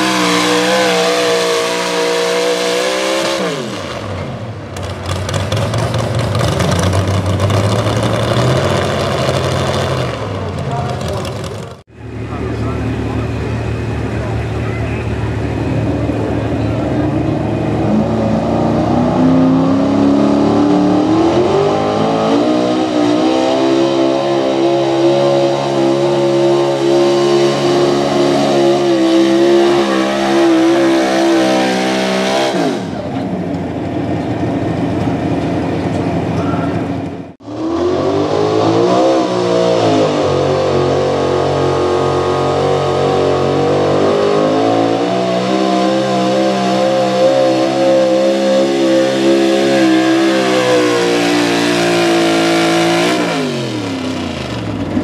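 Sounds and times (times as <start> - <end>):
truck engine revving at full throttle: 0.0 - 55.0.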